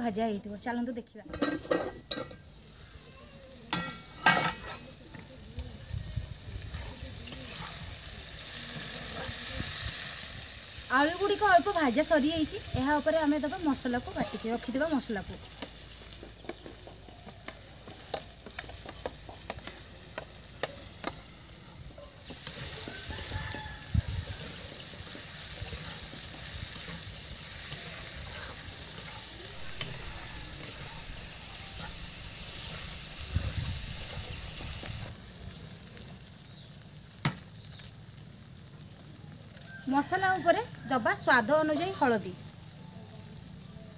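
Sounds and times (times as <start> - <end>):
potatoes sizzling in hot oil: 0.0 - 43.9.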